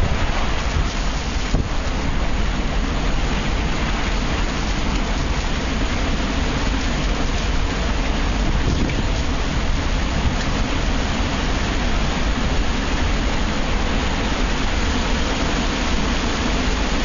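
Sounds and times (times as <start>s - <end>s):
deep rumble: 0.0s - 17.0s
rain and wind rushing: 0.0s - 17.0s.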